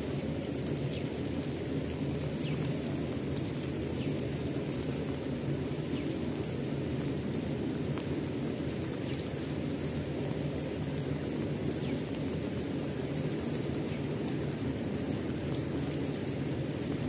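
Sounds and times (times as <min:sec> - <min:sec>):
steady rain: 0:00.0 - 0:17.0
drops ticking: 0:00.2 - 0:17.0.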